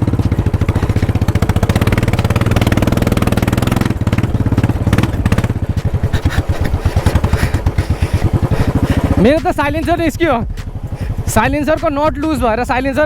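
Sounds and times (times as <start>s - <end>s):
motorcycle engine with open exhaust: 0.0s - 13.0s.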